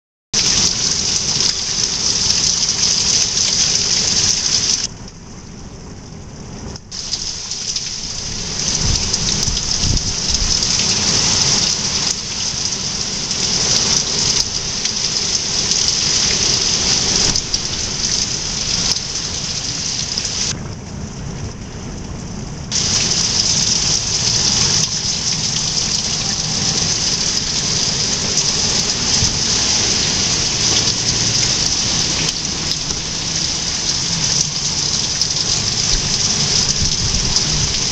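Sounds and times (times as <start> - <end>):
gusting wind: 0.4 - 37.9
heavy rain falling: 0.4 - 37.9
low rumbles: 3.8 - 37.9.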